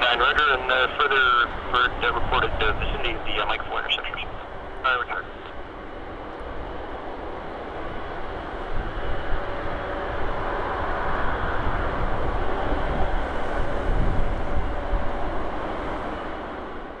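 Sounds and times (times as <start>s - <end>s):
jet airliner engines passing: 0.0s - 17.0s.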